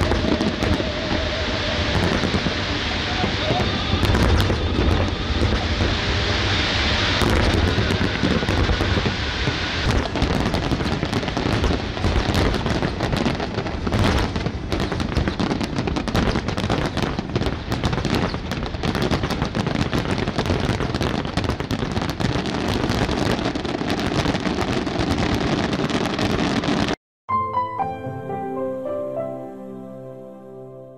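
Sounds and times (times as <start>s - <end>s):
firework shells bursting: 0.0s - 26.8s.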